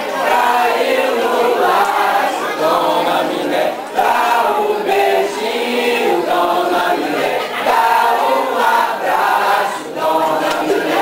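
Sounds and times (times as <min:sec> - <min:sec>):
mixed choir singing: 0:00.0 - 0:11.0.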